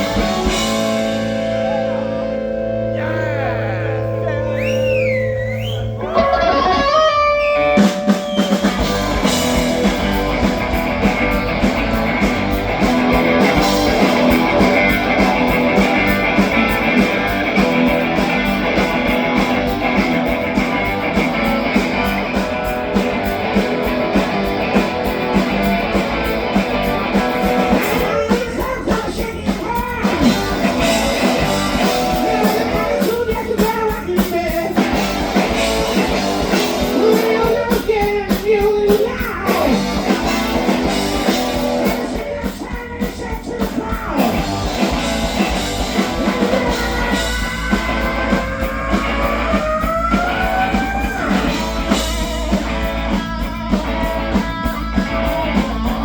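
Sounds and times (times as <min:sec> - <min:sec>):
electric guitar lead: 0:00.0 - 0:56.0
rock band playing: 0:00.0 - 0:56.0.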